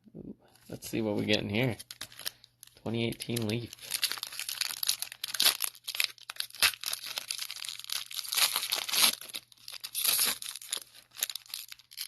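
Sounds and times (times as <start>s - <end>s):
wrapper tearing and crinkling: 1.7s - 12.0s.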